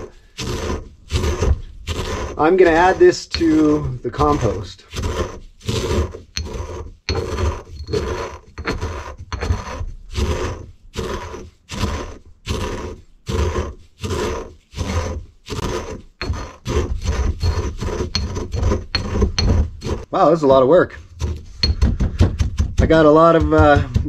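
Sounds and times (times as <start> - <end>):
pestle grinding eggshells: 0.0 - 20.4, 21.0 - 24.0.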